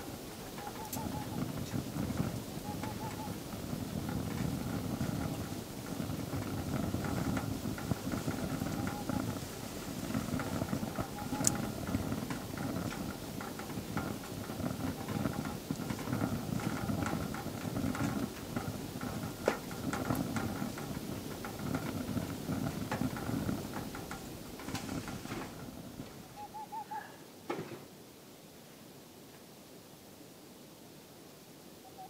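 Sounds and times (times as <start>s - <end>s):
crackles and pops of burning logs: 0.0s - 26.5s
low rumble of fire draft: 0.0s - 28.3s.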